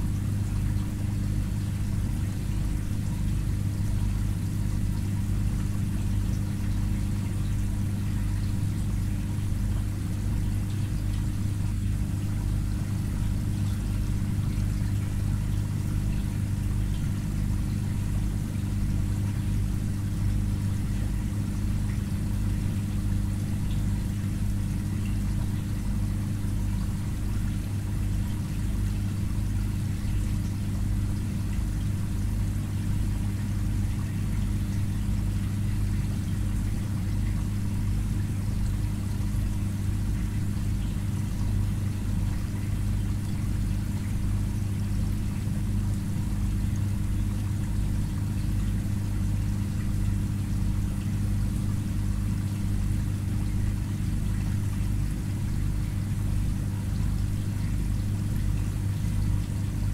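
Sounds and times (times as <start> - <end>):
aquarium filter pump humming: 0.0 - 59.9
moving water: 0.0 - 59.9.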